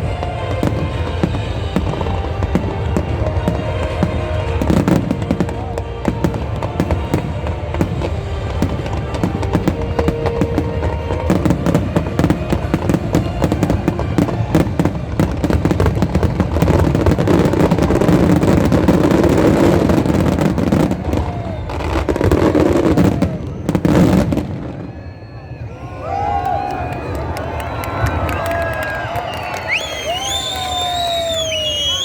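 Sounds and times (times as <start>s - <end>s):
fireworks crackling and banging: 0.0s - 25.6s, 27.0s - 32.0s.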